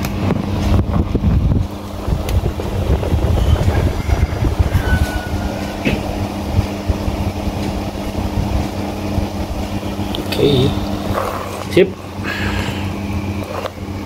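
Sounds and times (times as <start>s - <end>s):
air conditioning fan: 0.0s - 14.0s
uneven low rumble: 0.2s - 11.6s
car engine idling: 1.6s - 14.0s.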